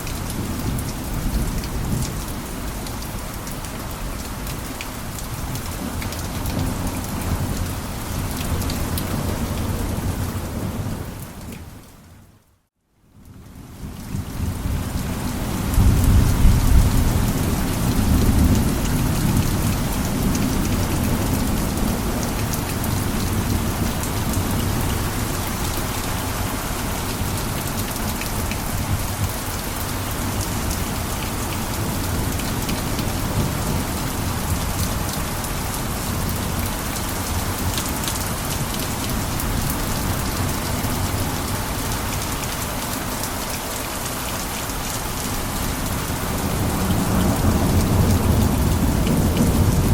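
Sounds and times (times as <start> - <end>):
heavy rain on a roof: 0.0 - 49.9.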